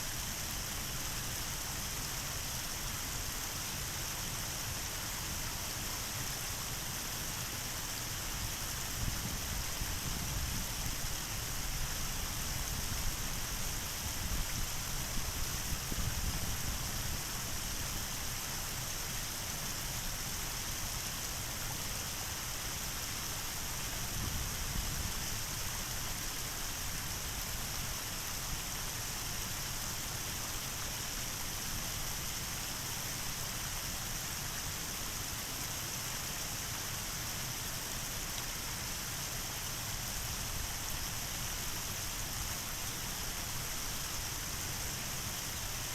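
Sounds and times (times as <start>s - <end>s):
water rushing down waterfall: 0.0s - 45.9s.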